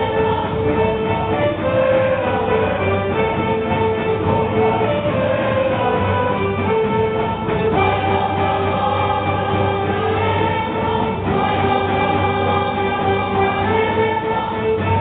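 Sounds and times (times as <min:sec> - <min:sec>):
folk choir singing long notes: 0:00.0 - 0:15.0.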